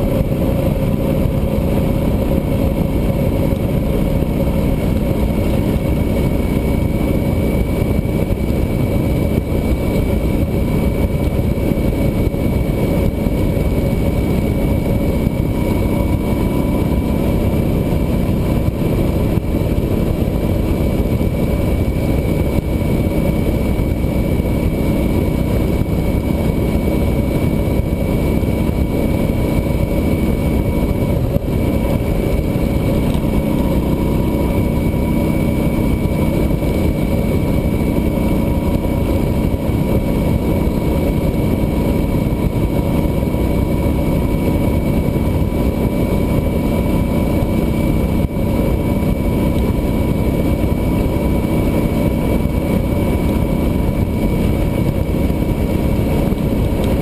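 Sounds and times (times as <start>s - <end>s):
motorcycle engine running: 0.0s - 57.0s
thin steady whine: 0.0s - 57.0s
wind noise on microphone: 0.0s - 57.0s.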